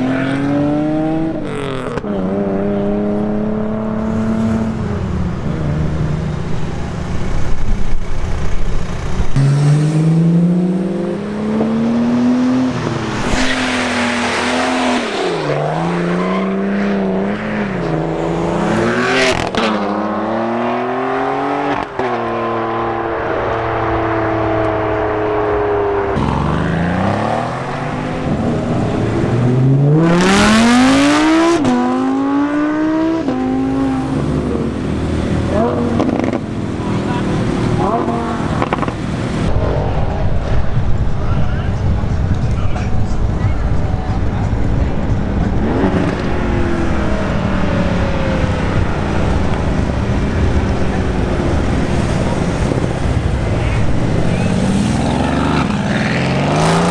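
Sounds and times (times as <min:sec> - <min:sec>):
cars accelerating hard: 0:00.0 - 0:56.9.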